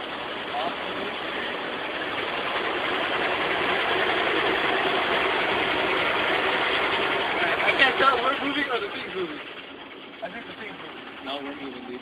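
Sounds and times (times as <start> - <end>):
car wash machinery rushing: 0.0 - 12.0.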